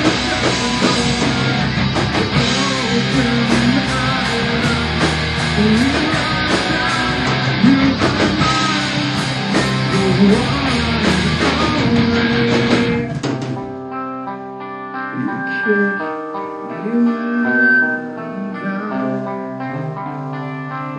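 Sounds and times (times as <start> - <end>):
clean picked guitar: 0.0 - 20.9
rock band playing: 0.0 - 20.9.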